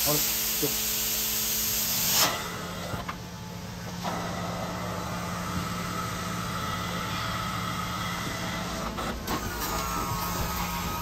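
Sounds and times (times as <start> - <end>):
carpet cleaning machine drone: 0.0 - 11.0.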